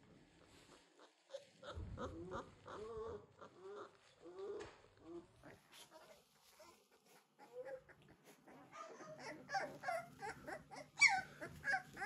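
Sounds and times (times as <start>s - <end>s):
puppies whimpering and squealing: 0.7s - 12.0s.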